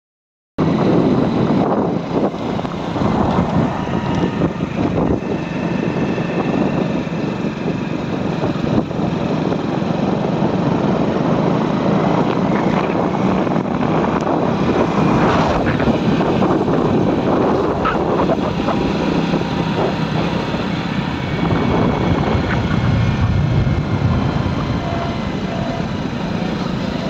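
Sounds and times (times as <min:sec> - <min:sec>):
motorcycle engine running: 0:00.6 - 0:27.0
wind buffeting microphone: 0:00.6 - 0:27.0.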